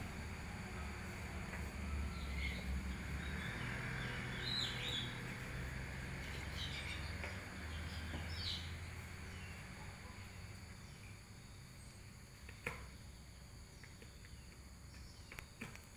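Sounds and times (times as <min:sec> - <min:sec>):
bird chirping: 0:01.7 - 0:15.9.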